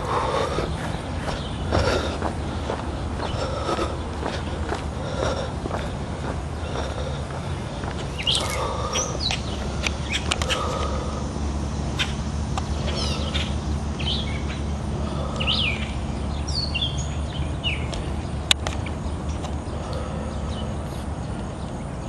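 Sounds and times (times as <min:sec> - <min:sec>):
low background rumble: 0:00.0 - 0:22.0
small birds chirping: 0:00.0 - 0:22.0.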